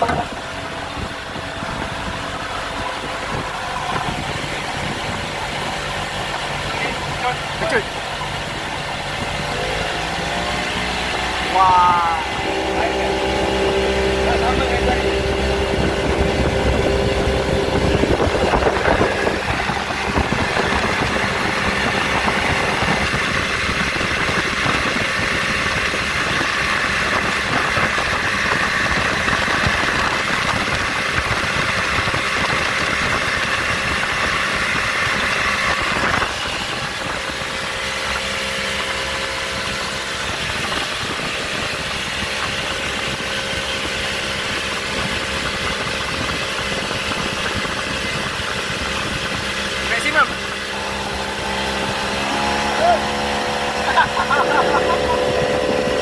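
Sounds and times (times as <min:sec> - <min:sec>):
outboard motor running: 0:00.0 - 0:56.0
water rushing along hull: 0:00.0 - 0:56.0.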